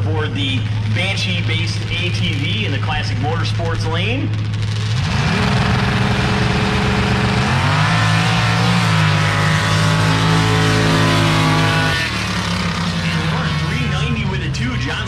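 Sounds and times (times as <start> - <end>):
racing engine revving: 0.0 - 15.0.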